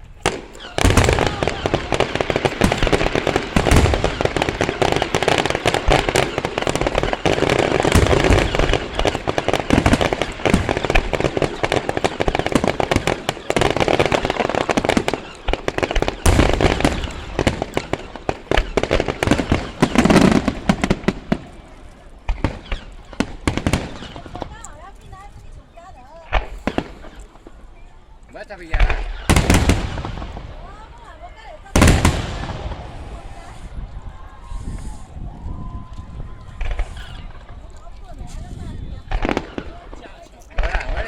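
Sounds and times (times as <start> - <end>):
deep fireworks booms: 0.0 - 25.4, 28.7 - 41.0
fireworks bangs and crackles: 0.0 - 41.0.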